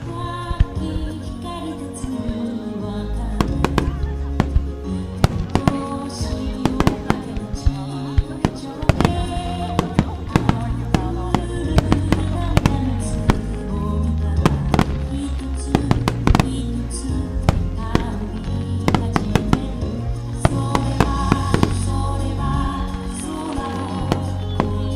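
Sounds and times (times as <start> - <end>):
fireworks bursting with sharp bangs: 0.0 - 24.9
song over loudspeakers: 0.0 - 24.9.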